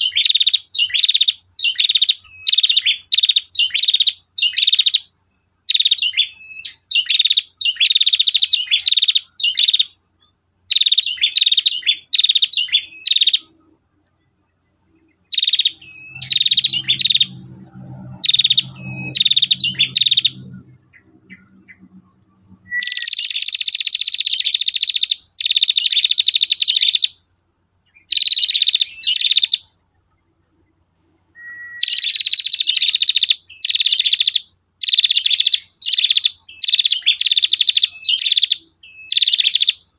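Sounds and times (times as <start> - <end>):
bird buzzy trill call: 0.0 - 10.0, 10.7 - 13.8, 15.0 - 27.2, 27.9 - 29.8, 31.2 - 39.9.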